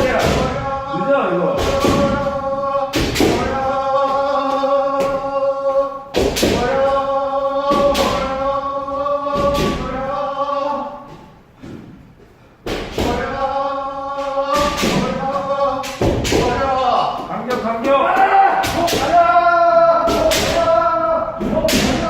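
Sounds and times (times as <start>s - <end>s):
people shouting: 0.0s - 11.2s, 12.7s - 22.0s.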